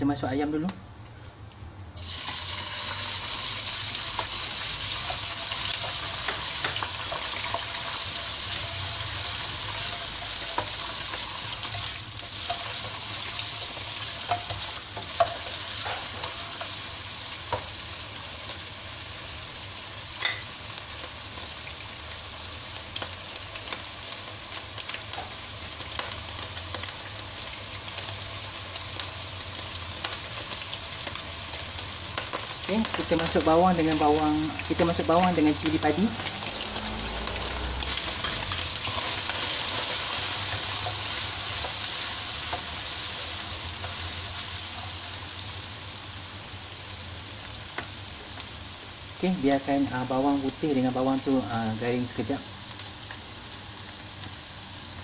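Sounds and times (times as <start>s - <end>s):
chicken sizzling in oil: 2.0s - 55.0s.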